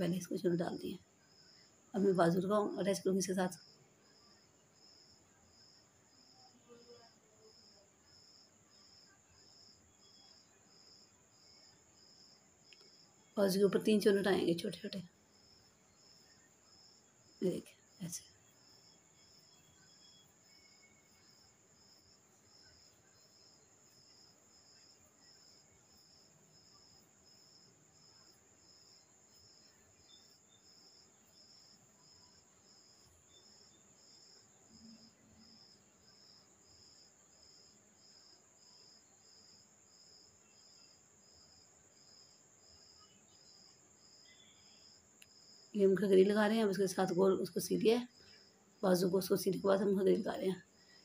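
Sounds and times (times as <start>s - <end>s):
cricket chirping faintly: 0.0s - 51.0s.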